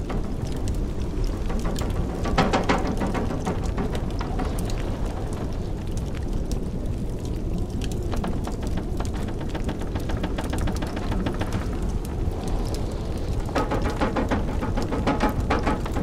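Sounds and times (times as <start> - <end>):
blizzard wind rumble: 0.0 - 16.0
wood fire crackling and popping: 0.0 - 16.0.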